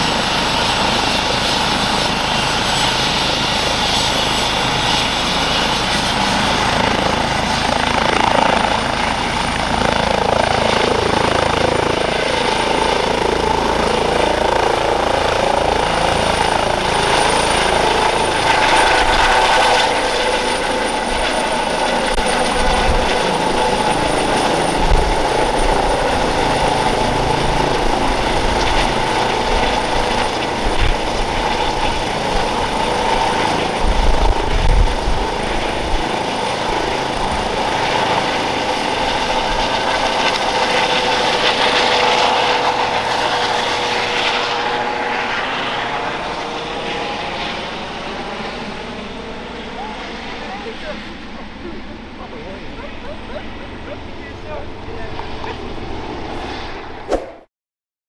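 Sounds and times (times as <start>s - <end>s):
helicopter turbines and rotor: 0.0s - 57.4s.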